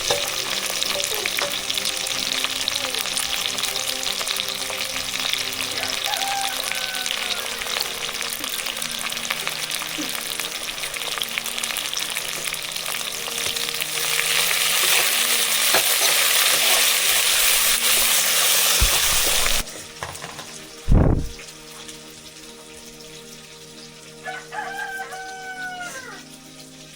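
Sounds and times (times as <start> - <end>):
food sizzling in hot oil: 0.0 - 26.9.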